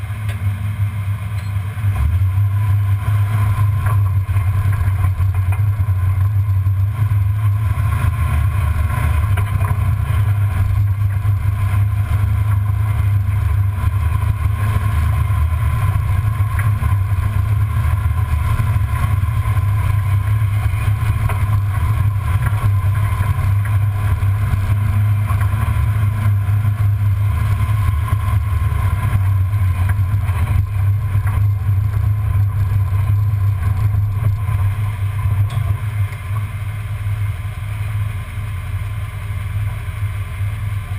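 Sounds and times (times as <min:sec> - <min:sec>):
low rumble of engine and drivetrain: 0:00.0 - 0:40.9.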